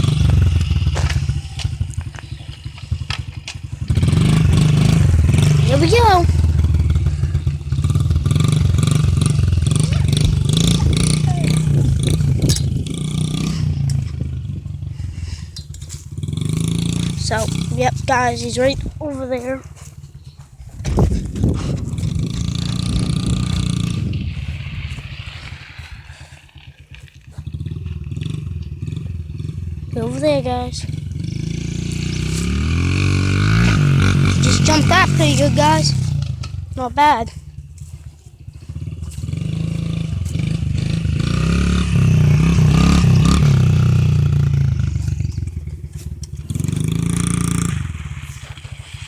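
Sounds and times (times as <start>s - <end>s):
dirt bike engine running: 0.0s - 49.0s.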